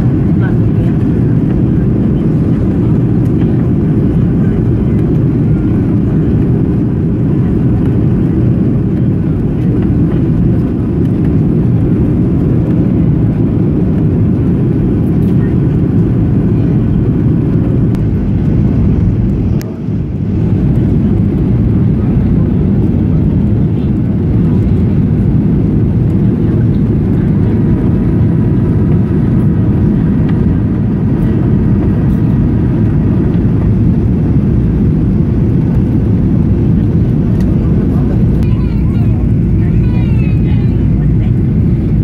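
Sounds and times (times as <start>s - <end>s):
aircraft cabin engine roar: 0.0s - 42.0s.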